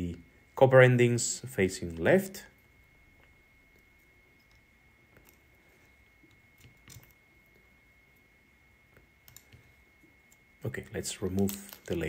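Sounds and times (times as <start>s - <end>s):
faint steady high tone: 0.0s - 12.0s.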